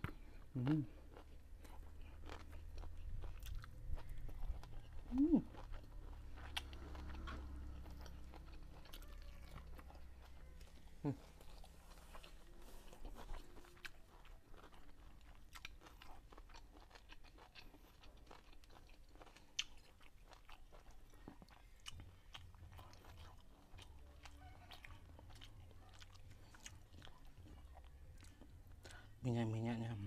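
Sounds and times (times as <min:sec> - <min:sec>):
chewing food: 0:00.0 - 0:30.0.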